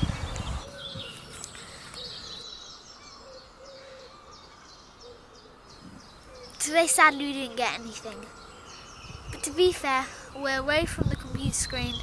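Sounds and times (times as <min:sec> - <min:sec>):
birds chirping: 0:00.0 - 0:12.0
lower bird calls: 0:00.0 - 0:12.0.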